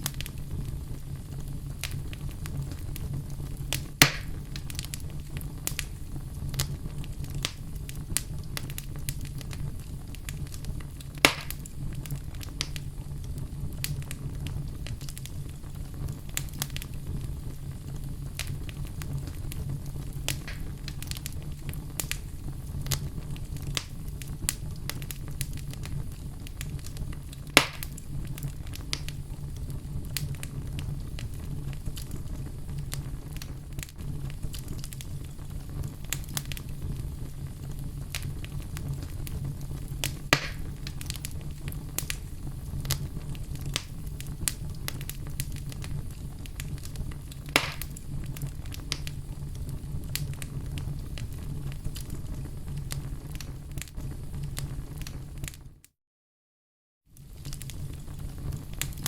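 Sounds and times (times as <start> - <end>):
loud fire pops: 0.0 - 55.7, 57.2 - 59.0
wood fire crackling: 0.0 - 55.8, 57.1 - 59.0.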